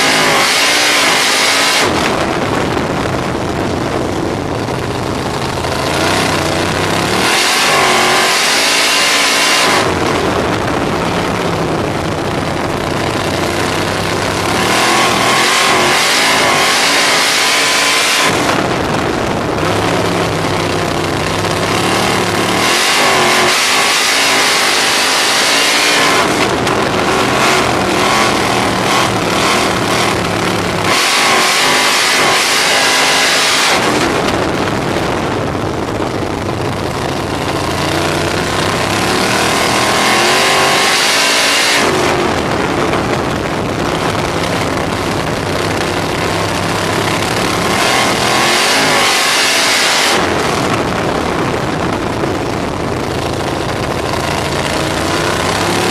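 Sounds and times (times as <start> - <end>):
race car engine: 0.0 - 55.9
wind rush: 0.0 - 55.9.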